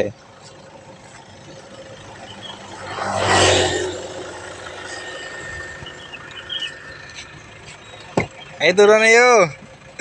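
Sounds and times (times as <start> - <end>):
car engine idling: 0.0 - 10.0
motor scooter passing: 0.3 - 8.7.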